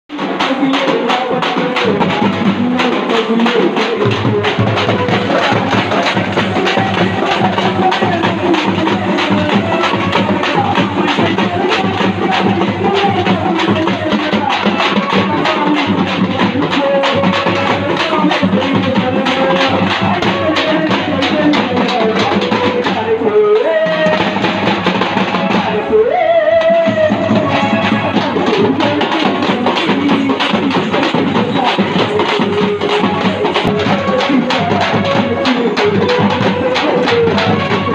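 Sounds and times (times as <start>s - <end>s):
frame drums beaten with sticks: 0.1s - 25.9s, 26.6s - 37.9s
held melody line: 0.2s - 37.9s.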